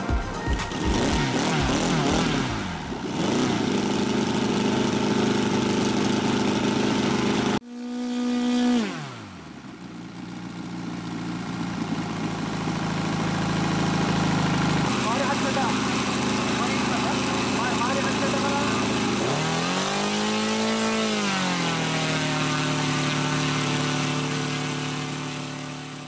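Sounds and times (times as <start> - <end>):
model aircraft engine running: 0.0 - 26.0.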